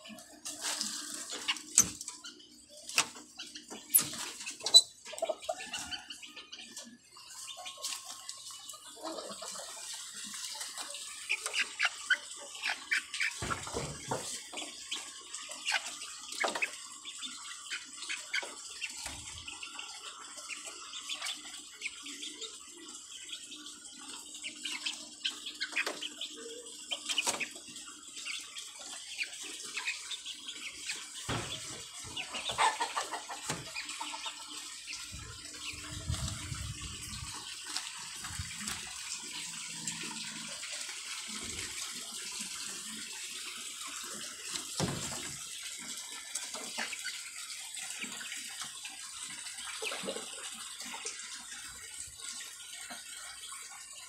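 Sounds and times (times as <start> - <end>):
chickens clucking: 0.0 - 43.8, 44.4 - 51.8.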